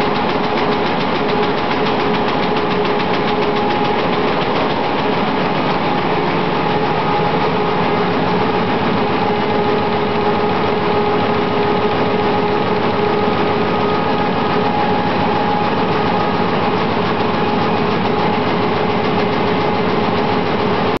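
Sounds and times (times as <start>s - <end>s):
printing press clattering: 0.0s - 21.0s.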